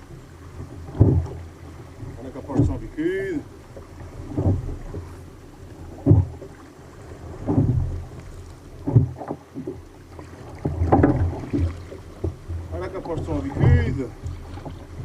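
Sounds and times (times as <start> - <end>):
water slapping against kayak: 0.0 - 15.0.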